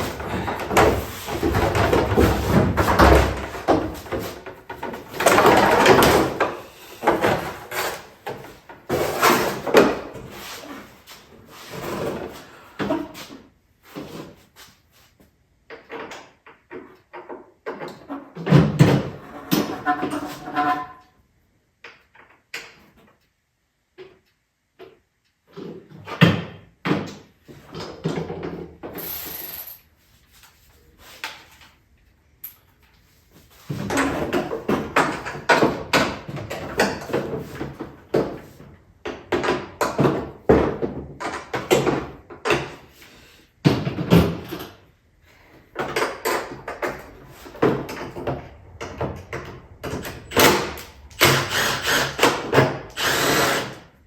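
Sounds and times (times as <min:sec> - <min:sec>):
knocks and clatter of parts: 0:00.0 - 0:10.4, 0:15.6 - 0:21.1, 0:24.0 - 0:43.0, 0:43.6 - 0:53.7.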